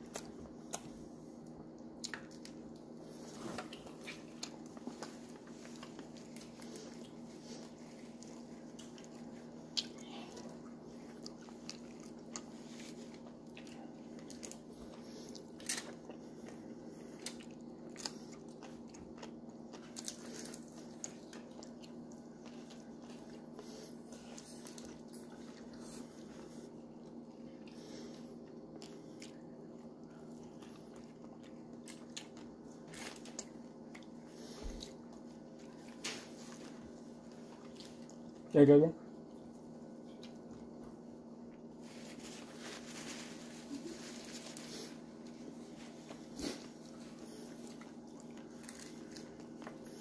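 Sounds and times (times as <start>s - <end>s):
chewing and crunching: 0.0s - 38.5s, 39.1s - 50.0s
low electrical hum: 0.0s - 50.0s.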